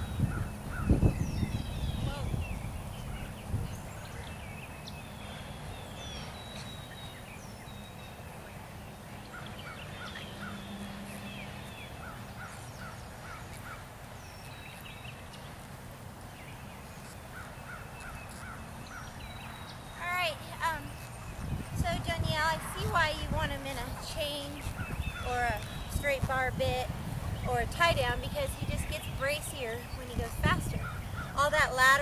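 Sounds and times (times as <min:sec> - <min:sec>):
birds chirping: 0:00.0 - 0:32.0
low outdoor background noise: 0:00.0 - 0:32.0.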